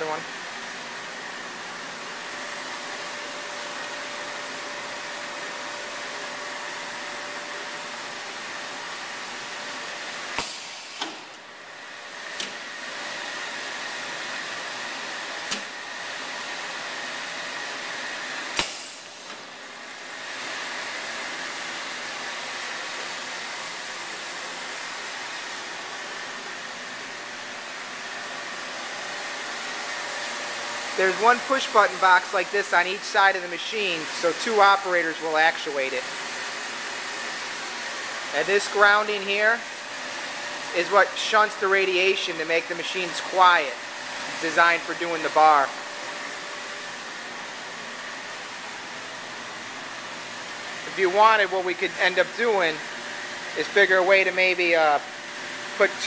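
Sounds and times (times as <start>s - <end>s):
welder running with airy hiss: 0.0s - 56.0s.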